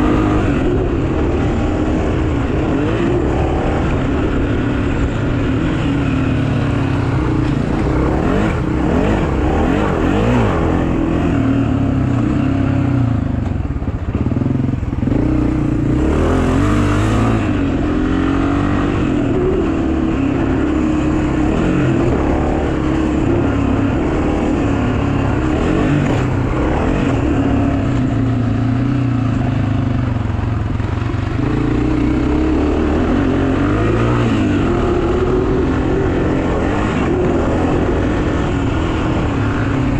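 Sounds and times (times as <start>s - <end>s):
pit bike engines revving: 0.0s - 29.7s, 30.6s - 39.9s.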